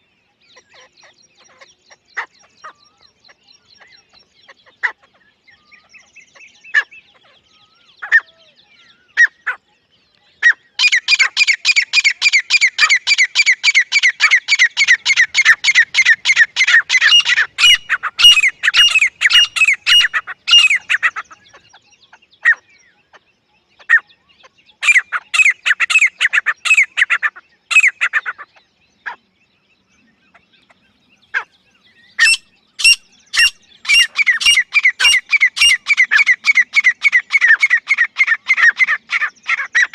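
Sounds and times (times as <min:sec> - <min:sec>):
francolin calling: 0:00.6 - 0:29.2, 0:30.4 - 0:39.9.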